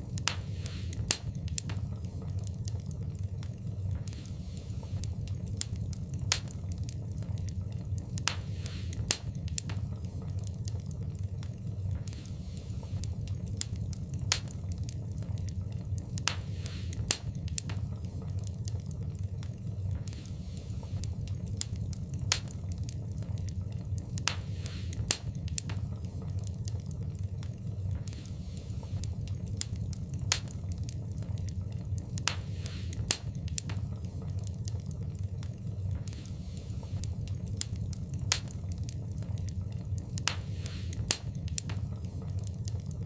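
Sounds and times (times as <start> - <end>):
fire hissing: 0.0 - 43.0
wood fire crackling and popping: 0.0 - 43.0.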